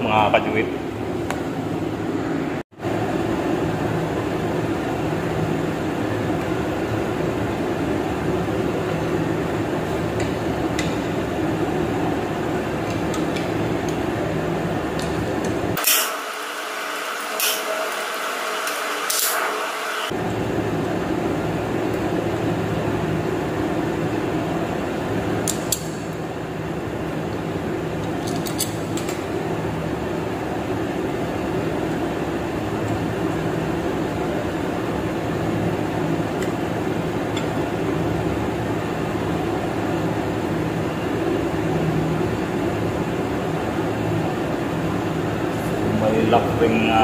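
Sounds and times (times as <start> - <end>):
workshop mechanical hum: 0.0 - 47.0.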